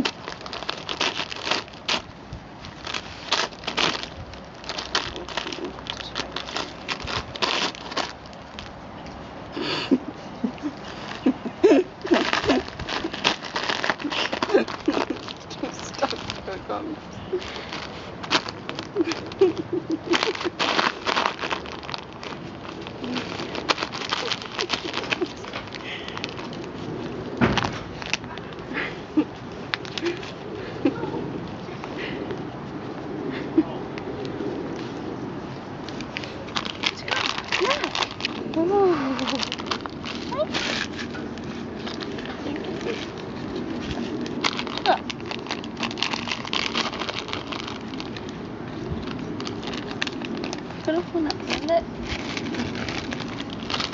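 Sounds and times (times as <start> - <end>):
paper bag crinkling and tearing: 0.0 - 8.8, 10.7 - 30.7, 35.8 - 53.9.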